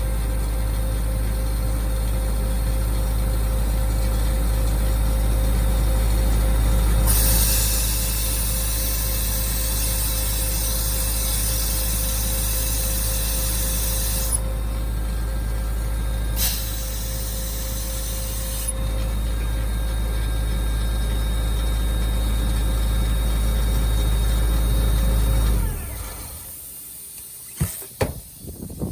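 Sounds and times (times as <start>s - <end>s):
air compressor humming and whining: 0.0s - 28.9s.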